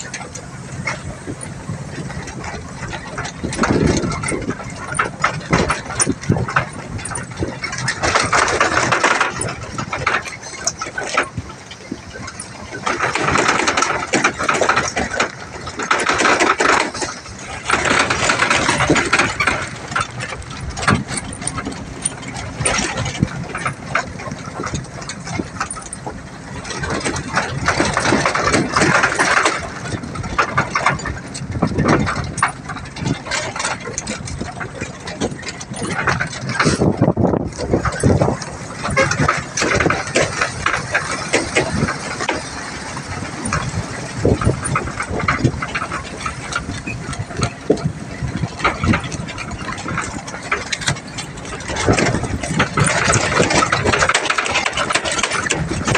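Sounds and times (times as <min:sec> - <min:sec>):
rattling: 0:00.0 - 0:55.9
truck engine: 0:00.0 - 0:55.9.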